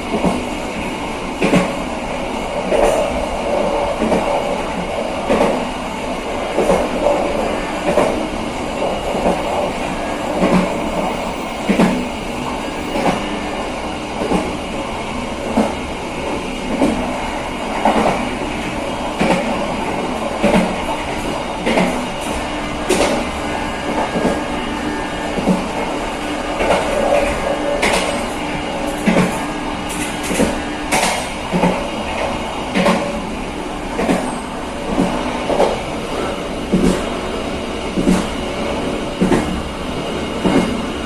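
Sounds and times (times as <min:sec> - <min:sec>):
clickety-clack over rail joints: 0:00.0 - 0:00.5, 0:01.4 - 0:01.9, 0:02.5 - 0:13.3, 0:14.2 - 0:14.6, 0:15.4 - 0:24.6, 0:25.2 - 0:41.0
train wheels rumbling: 0:00.0 - 0:41.0.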